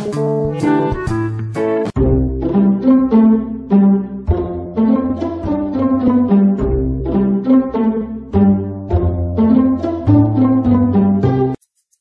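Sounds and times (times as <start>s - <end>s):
instrumental background music: 0.0s - 11.9s.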